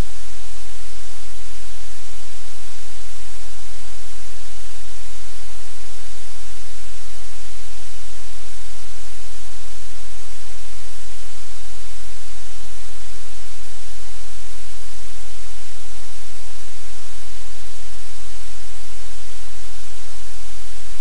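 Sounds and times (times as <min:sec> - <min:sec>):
static hiss: 0:00.0 - 0:21.0.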